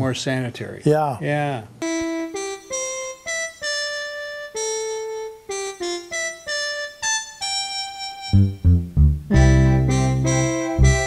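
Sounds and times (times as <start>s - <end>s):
slow electronic keyboard melody: 1.8s - 11.0s.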